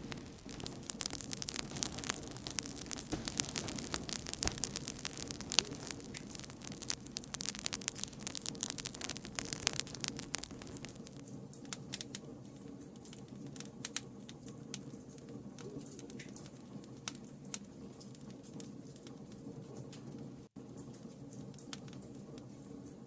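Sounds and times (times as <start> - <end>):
wood fire crackling and popping: 0.0 - 22.5.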